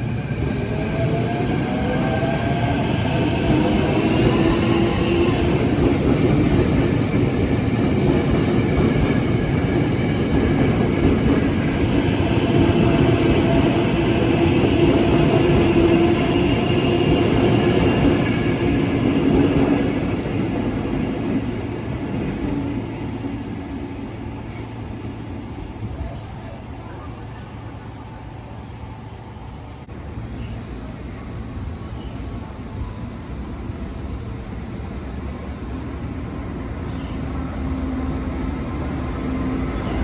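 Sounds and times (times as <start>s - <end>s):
electric train rumbling past: 0.0s - 40.0s.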